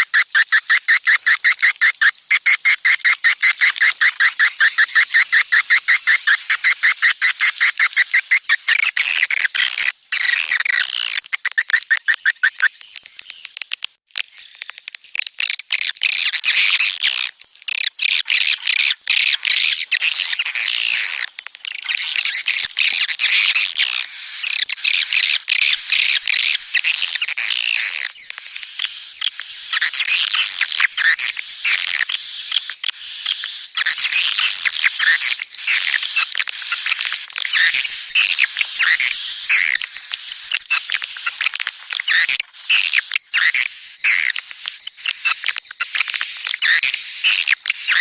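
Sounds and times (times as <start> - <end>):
swiftlets chirping and twittering: 0.0 - 13.4, 15.6 - 48.0.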